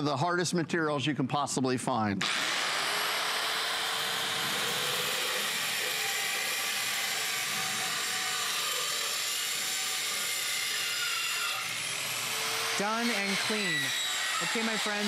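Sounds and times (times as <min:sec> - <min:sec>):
circular saw cutting steel: 0:02.2 - 0:15.0.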